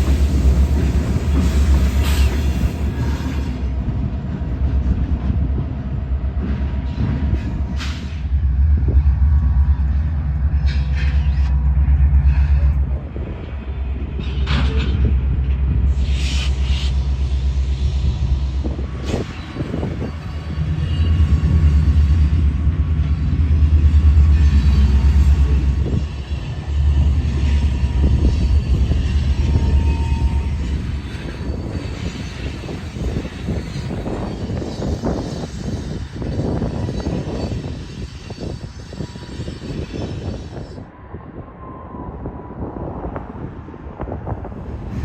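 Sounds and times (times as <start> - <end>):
diesel locomotive engine rumble: 0.0 - 45.0.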